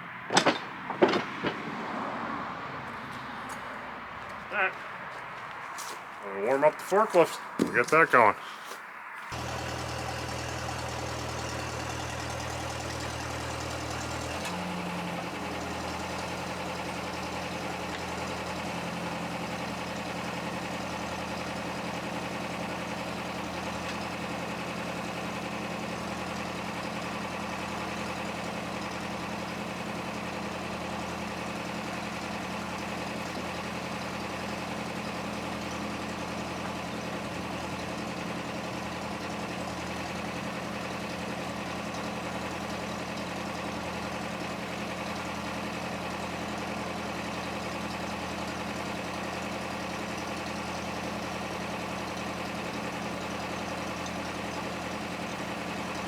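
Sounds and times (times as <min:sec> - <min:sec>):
forklift engine idling: 0:00.0 - 0:56.0.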